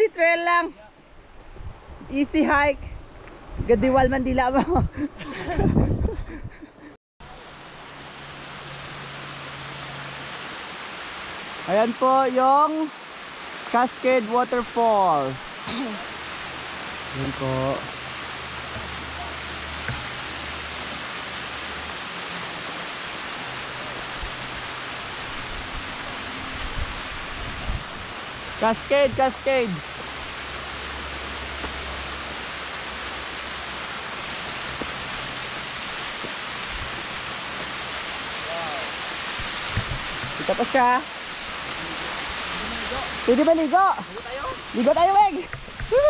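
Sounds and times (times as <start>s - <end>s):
waterfall rushing: 7.2s - 46.0s.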